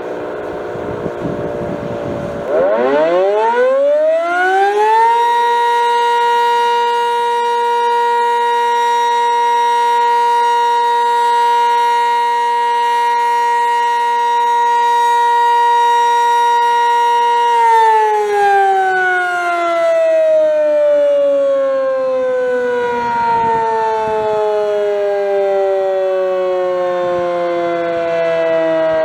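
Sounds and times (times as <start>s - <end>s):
siren winding up: 0.0s - 11.9s, 14.8s - 29.0s.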